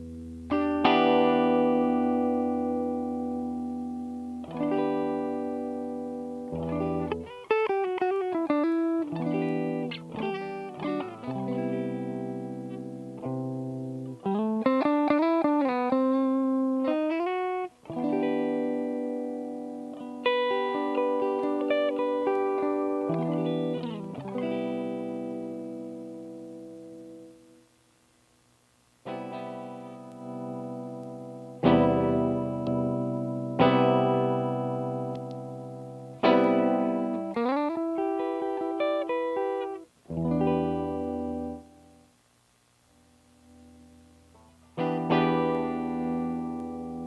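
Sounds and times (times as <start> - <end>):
electric guitar chords and notes: 0.0 - 27.6, 29.0 - 42.2, 42.9 - 47.0.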